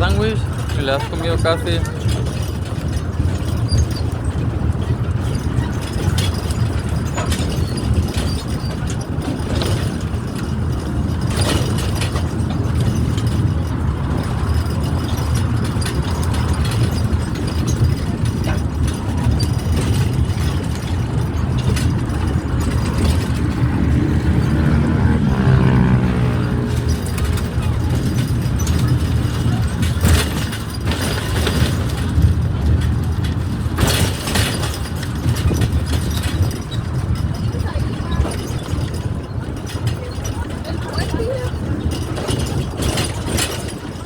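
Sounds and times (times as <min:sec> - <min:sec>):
small train rumbling: 0:00.0 - 0:44.0.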